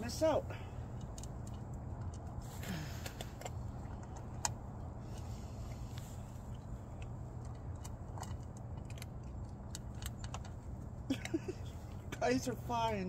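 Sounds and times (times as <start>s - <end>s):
steady low rumble: 0.0s - 13.0s
cats crunching dry food: 0.1s - 13.0s.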